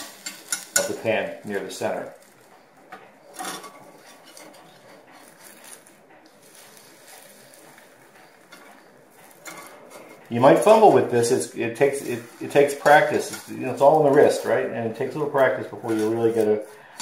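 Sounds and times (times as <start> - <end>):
metal spatula scraping a pan: 0.0 - 17.0.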